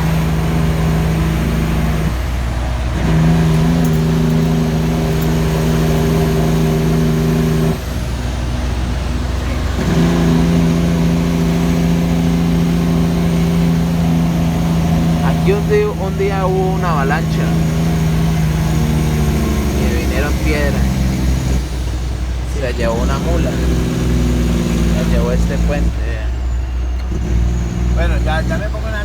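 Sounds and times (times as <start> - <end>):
truck engine brake droning: 0.0 - 29.0.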